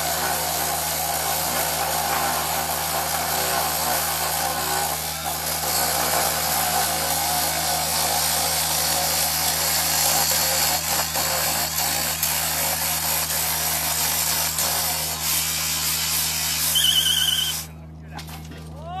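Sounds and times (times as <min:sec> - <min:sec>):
rail saw grinding steel: 0:00.0 - 0:17.7.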